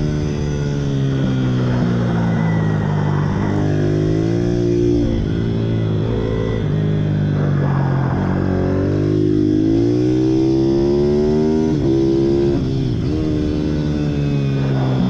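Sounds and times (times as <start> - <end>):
steady engine tone: 0.0 - 15.0.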